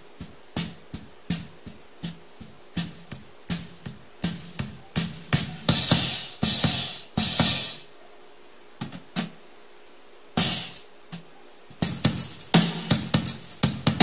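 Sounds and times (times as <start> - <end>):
drum kit playing: 0.0 - 7.9, 8.8 - 9.4, 10.4 - 14.0.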